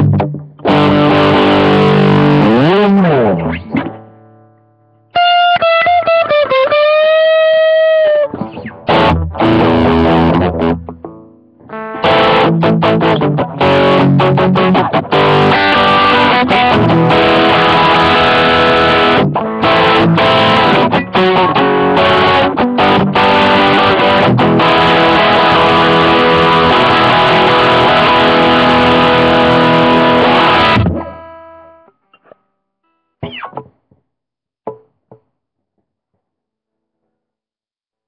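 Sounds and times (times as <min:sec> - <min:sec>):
distorted electric guitar: 0:00.0 - 0:32.4, 0:33.2 - 0:34.0.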